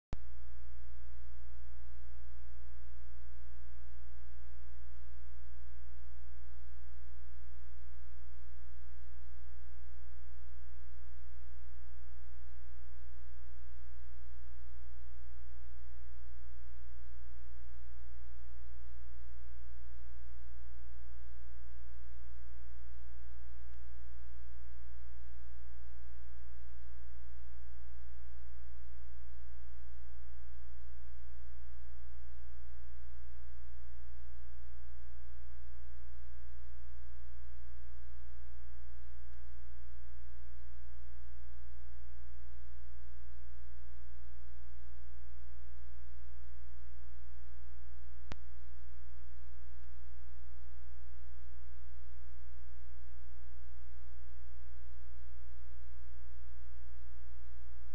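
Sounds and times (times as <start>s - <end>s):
electrical mains hum: 0.2s - 57.9s.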